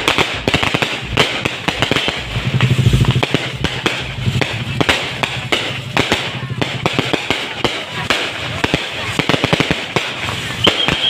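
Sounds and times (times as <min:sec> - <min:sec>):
firecrackers banging and popping: 0:00.0 - 0:11.0.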